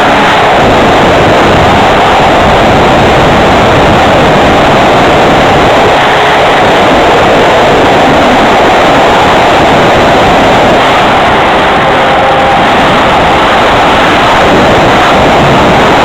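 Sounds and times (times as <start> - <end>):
airflow buffeting a camera: 0.0 - 16.0
model plane motor and propeller: 0.0 - 16.0.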